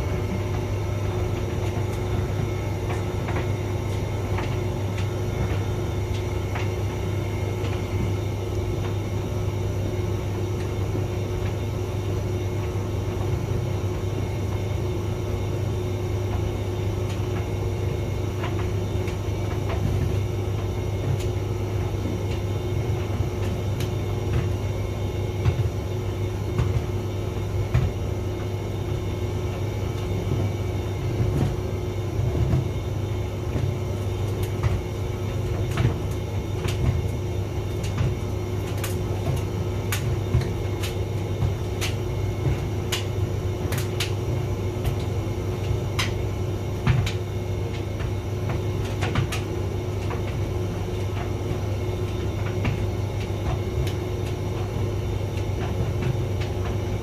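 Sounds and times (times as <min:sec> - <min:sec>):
tumble dryer humming: 0:00.0 - 0:57.0.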